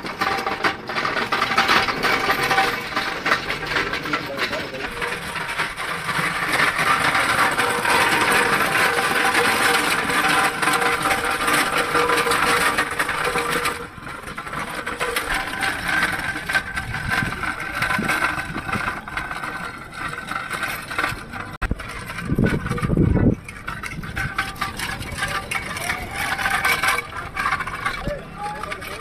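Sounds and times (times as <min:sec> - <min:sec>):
dolly wheels rattling over paving: 0:00.0 - 0:29.0.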